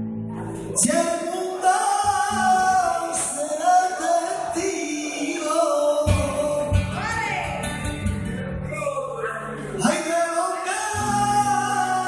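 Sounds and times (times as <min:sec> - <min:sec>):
flamenco guitar strumming: 0:00.0 - 0:12.0
man singing flamenco: 0:00.7 - 0:08.4, 0:09.6 - 0:12.0.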